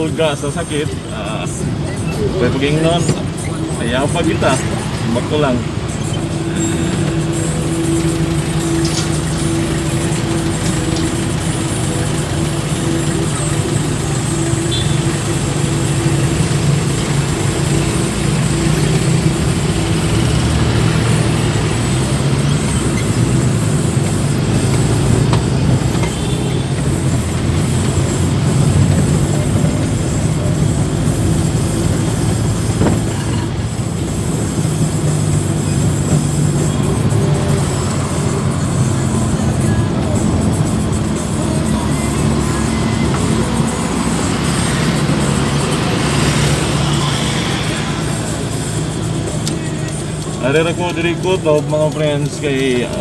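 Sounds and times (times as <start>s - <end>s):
tyre road rush: 0.0s - 53.0s
vehicle engine hum: 0.0s - 53.0s.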